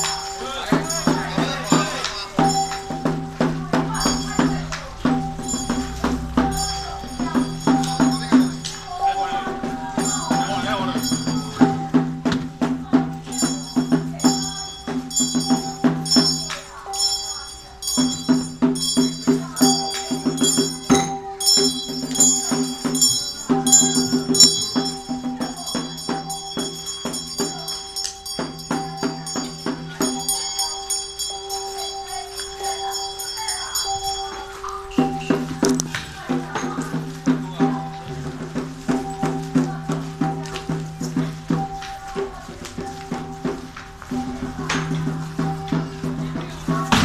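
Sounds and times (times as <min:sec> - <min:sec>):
jingling shimmer: 0:00.0 - 0:47.0
temple percussion playing: 0:00.0 - 0:47.0.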